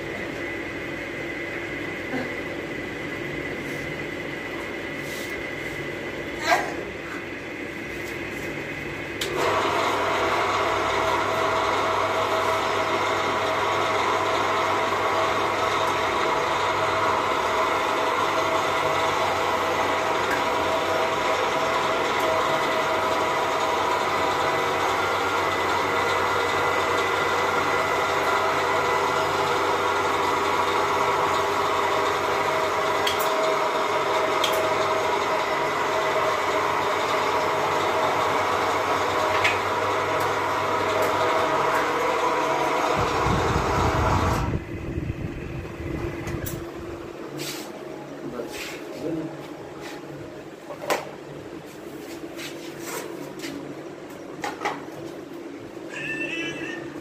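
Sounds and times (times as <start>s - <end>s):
hydraulic motor and pump whine: 0.0s - 51.8s.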